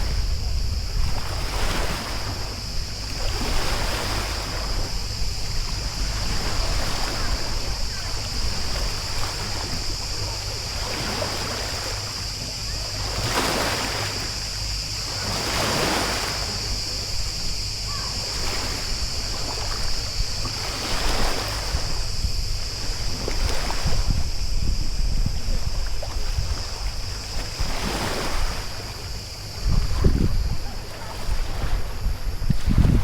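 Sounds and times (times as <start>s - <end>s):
wind on microphone: 0.0s - 12.4s, 14.3s - 33.0s
paddle splashing in water: 0.0s - 14.4s, 15.0s - 33.0s
high-pitched buzz: 0.0s - 30.6s.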